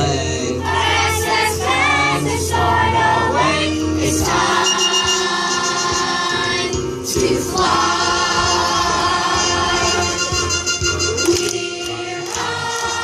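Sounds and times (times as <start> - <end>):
group of voices singing: 0.0 - 13.0
musical accompaniment: 0.0 - 13.0.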